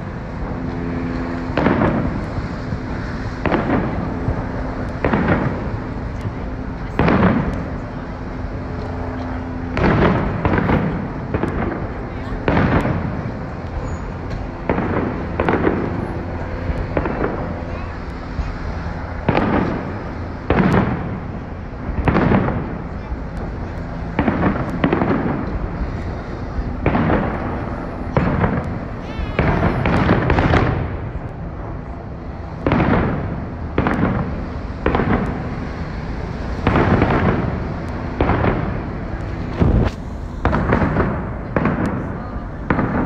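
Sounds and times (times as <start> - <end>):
background rumble: 0.0 - 43.0
fireworks bursting with loud bangs: 0.0 - 43.0.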